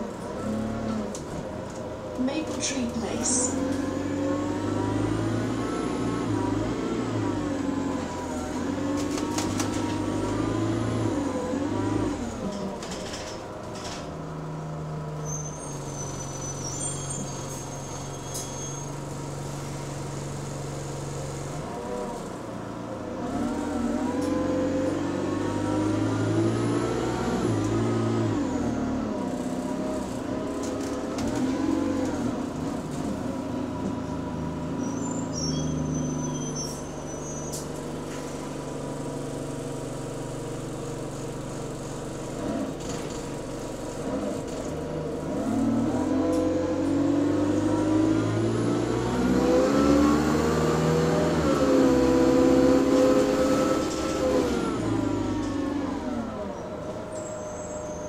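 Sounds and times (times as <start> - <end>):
bus diesel engine moaning: 0.0 - 58.0.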